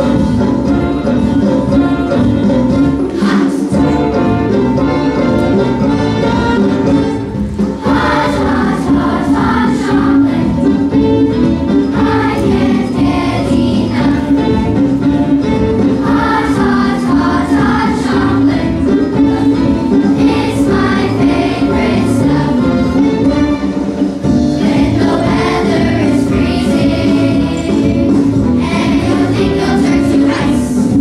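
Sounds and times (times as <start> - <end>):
children's choir singing: 0.0 - 31.0.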